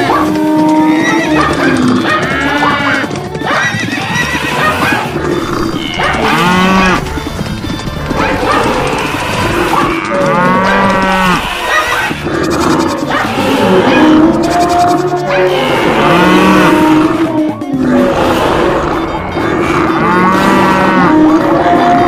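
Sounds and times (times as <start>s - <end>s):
drawn-out rising and falling call: 0.0s - 21.1s
animal calls from running herd: 0.0s - 22.0s
music: 0.0s - 22.0s.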